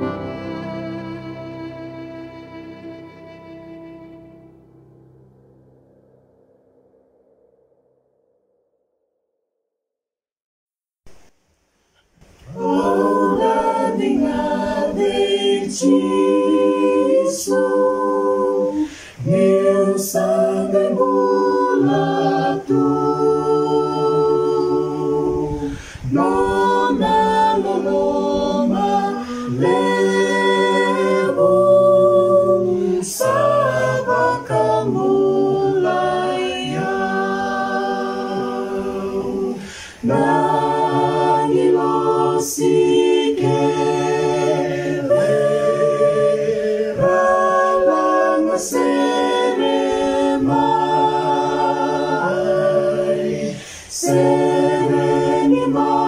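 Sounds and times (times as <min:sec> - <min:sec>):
mixed group singing unaccompanied: 0:00.0 - 0:03.0, 0:12.4 - 0:56.0.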